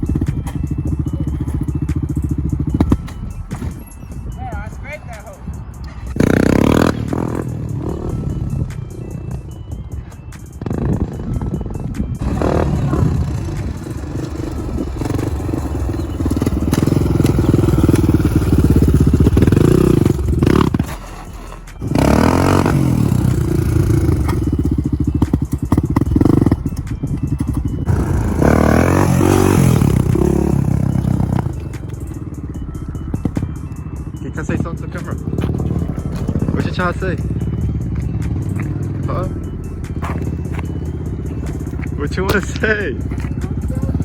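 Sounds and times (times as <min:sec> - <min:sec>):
quad engine revving: 0:00.0 - 0:03.8, 0:06.1 - 0:09.5, 0:10.5 - 0:44.0.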